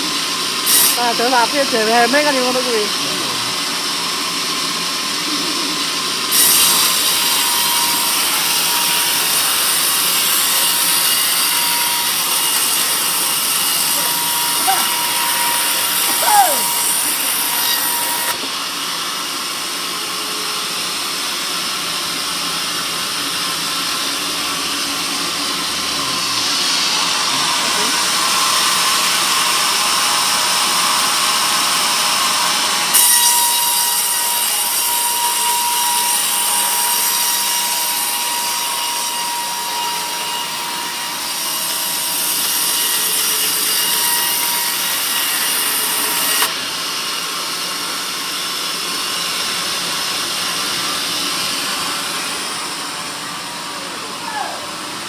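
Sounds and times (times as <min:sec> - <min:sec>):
band saw cutting log: 0:00.0 - 0:54.2.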